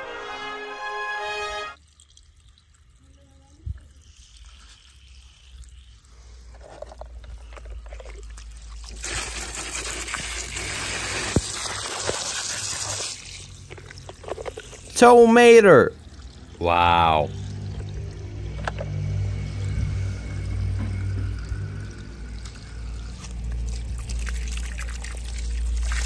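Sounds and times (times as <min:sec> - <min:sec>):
water splashing on plastic toy: 0:01.8 - 0:26.0.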